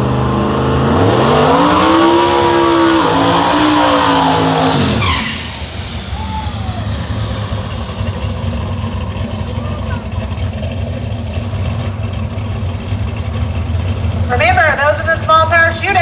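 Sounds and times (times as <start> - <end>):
racing engine at full throttle: 0.0 - 16.0.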